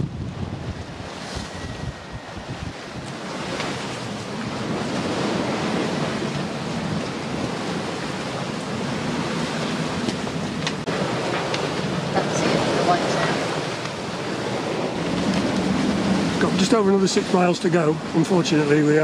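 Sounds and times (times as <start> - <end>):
water rushing along a hull: 0.0 - 19.0
wind on the microphone: 0.0 - 19.0.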